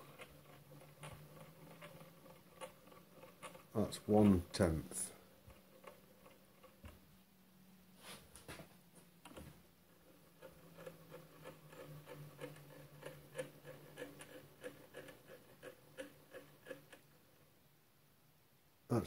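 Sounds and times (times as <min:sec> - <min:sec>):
faint mechanical ticking: 0:00.0 - 0:07.4, 0:09.1 - 0:17.6.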